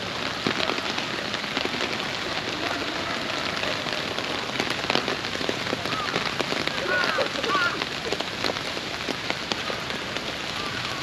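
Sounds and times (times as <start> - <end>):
rain on plastic umbrella: 0.0 - 11.0
raindrops ticking: 0.0 - 11.0.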